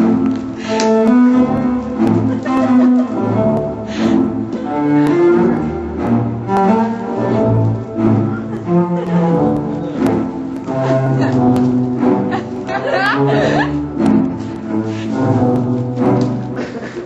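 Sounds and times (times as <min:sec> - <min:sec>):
low bowed strings: 0:00.0 - 0:17.0.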